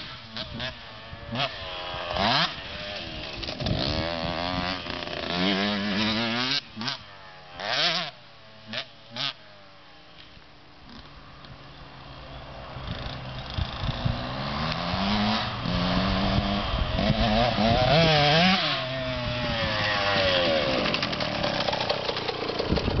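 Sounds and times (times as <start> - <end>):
two-stroke engine revving: 0.0 - 9.5, 12.8 - 23.0.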